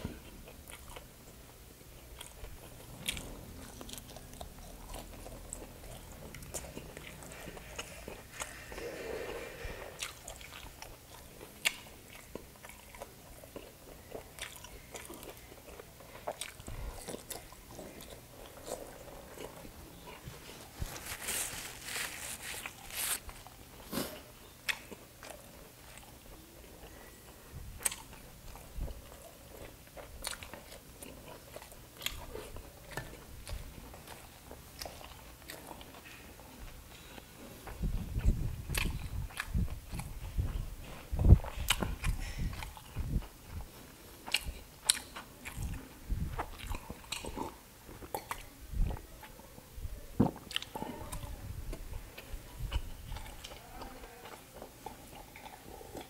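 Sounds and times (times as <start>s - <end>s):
man biting and chewing food: 0.0s - 27.0s, 27.8s - 49.4s, 50.2s - 56.0s.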